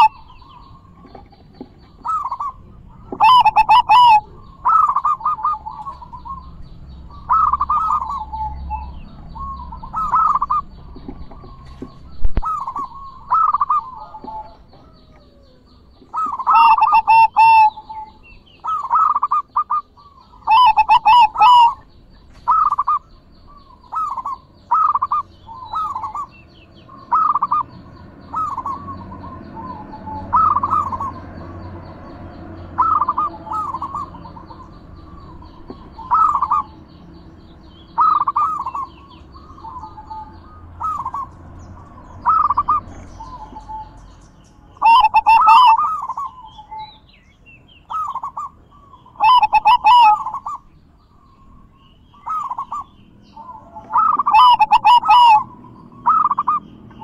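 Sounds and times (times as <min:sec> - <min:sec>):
dove cooing: 0:00.0 - 0:37.0, 0:37.7 - 0:44.2, 0:44.8 - 0:47.0, 0:47.9 - 0:57.0.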